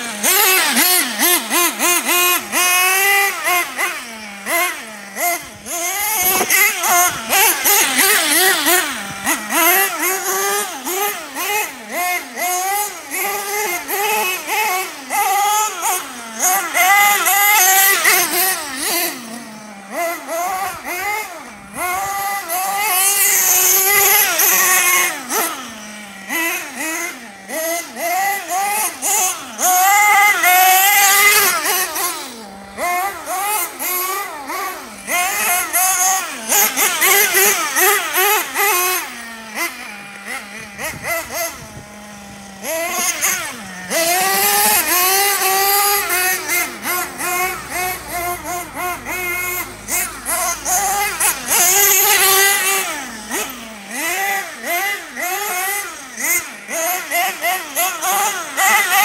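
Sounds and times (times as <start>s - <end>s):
rc truck nitro engine revving: 0.0s - 59.0s.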